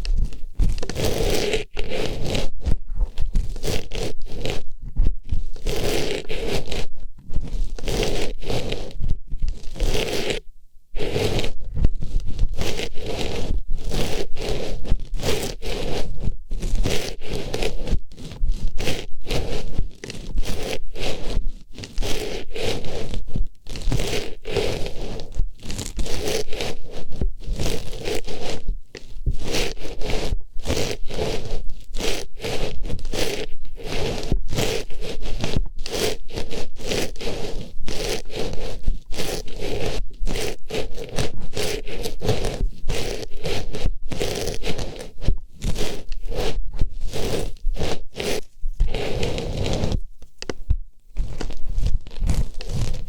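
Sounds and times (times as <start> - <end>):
artificial flower rubbing in ear: 0.0 - 53.0.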